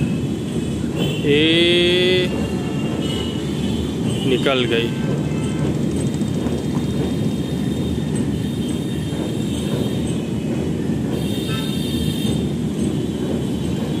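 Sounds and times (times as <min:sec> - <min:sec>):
train rumbling over bridge: 0:00.0 - 0:14.0.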